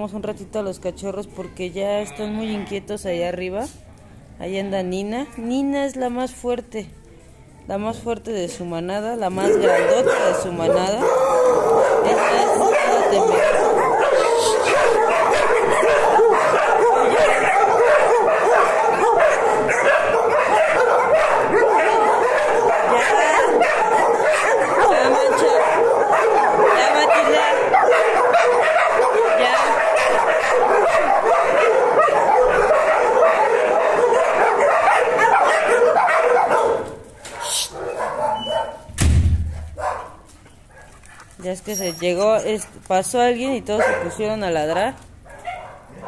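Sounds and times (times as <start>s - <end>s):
dogs and puppies barking: 8.5s - 46.0s.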